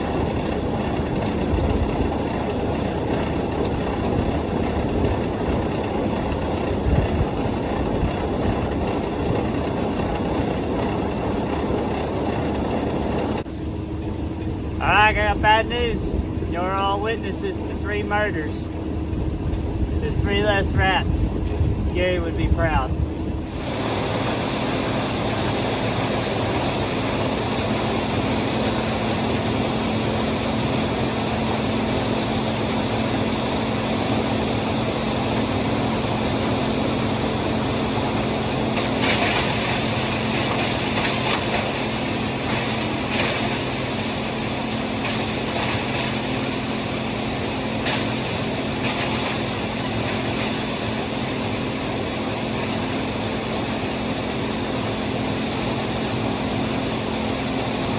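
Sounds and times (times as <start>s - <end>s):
diesel tractor engine under load: 0.0s - 57.9s.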